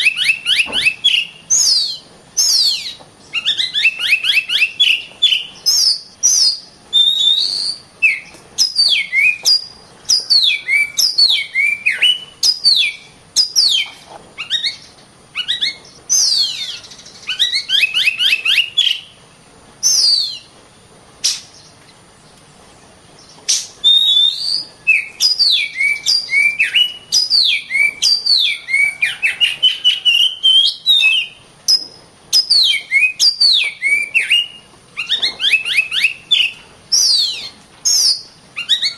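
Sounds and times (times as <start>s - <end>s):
magpie-robin singing whistled notes: 0.0s - 19.2s, 19.8s - 20.5s, 23.2s - 38.9s.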